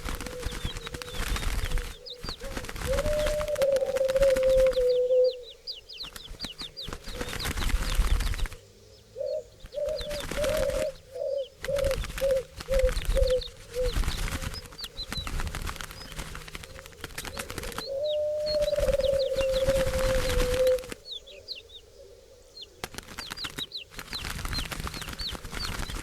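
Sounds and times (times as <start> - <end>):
wings flapping: 0.0 - 8.7, 9.6 - 21.2, 22.8 - 26.0
doves cooing: 0.0 - 23.2
small bird chirping: 0.0 - 26.0.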